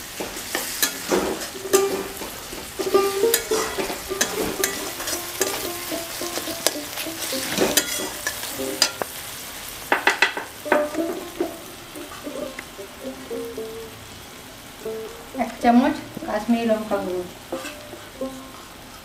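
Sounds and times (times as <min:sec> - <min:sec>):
masala sizzling in oil: 0:00.0 - 0:19.0
metal spatula scraping pan: 0:00.1 - 0:09.2, 0:10.0 - 0:13.8, 0:14.9 - 0:19.0.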